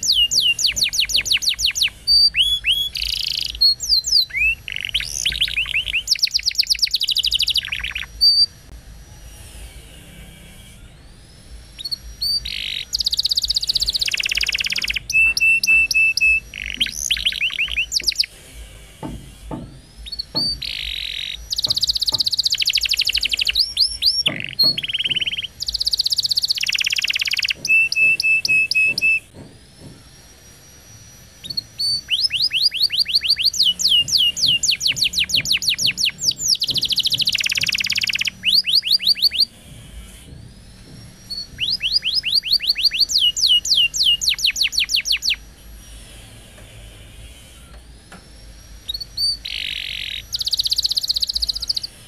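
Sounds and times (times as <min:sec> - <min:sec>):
canary singing: 0:00.0 - 0:52.0.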